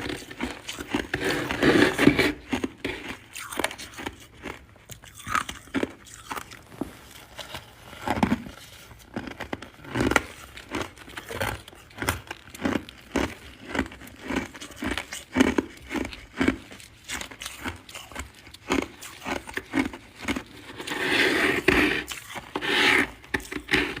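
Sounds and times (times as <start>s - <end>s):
ice being chewed: 0.0s - 24.0s.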